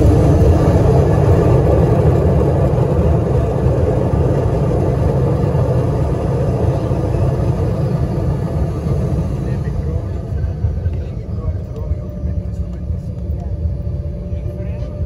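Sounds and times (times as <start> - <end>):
jet engine noise in cabin: 0.0 - 15.0
runway rumble: 0.0 - 15.0.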